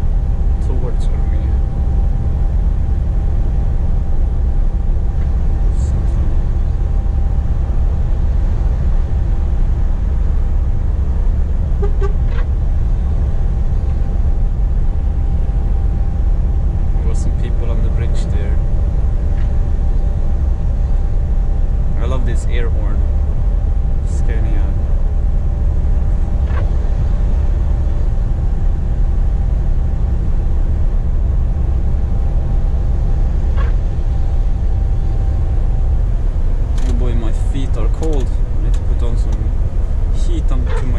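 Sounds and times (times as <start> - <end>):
faint steady hum: 0.0 - 40.9
faint steady tone: 0.0 - 40.9
truck engine and road rumble: 0.0 - 40.9.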